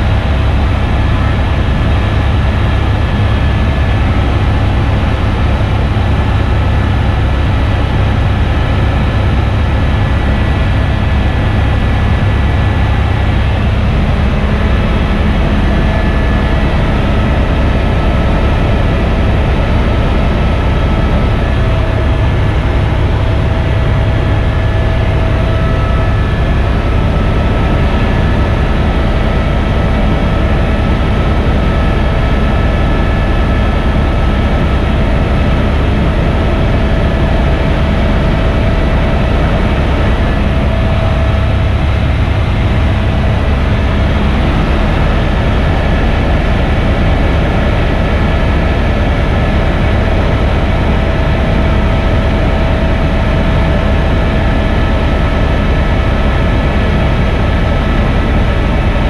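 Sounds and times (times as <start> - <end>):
helicopter cabin drone and whine: 0.0 - 59.0.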